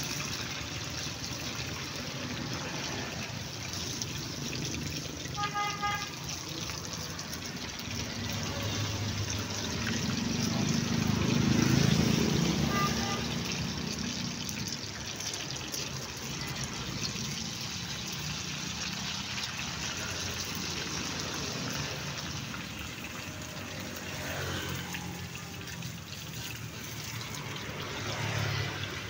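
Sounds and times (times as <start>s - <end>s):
hot oil sizzling and bubbling: 0.0s - 29.0s.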